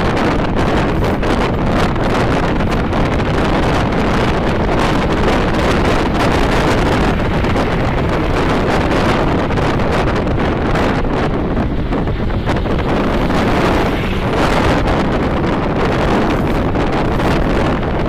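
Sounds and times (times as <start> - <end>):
road rumble and traffic: 0.0 - 18.0
wind buffeting microphone: 0.0 - 18.0.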